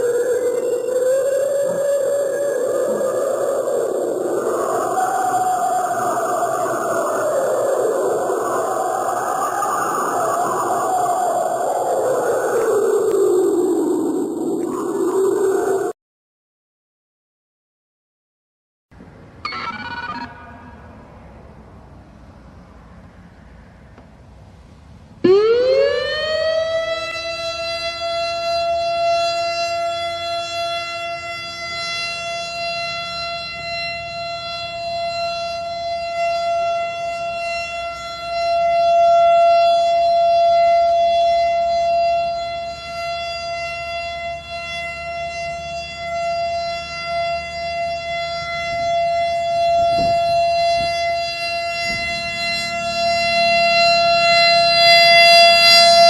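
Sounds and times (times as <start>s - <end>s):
civil defense siren: 0.0s - 16.0s, 24.5s - 56.0s.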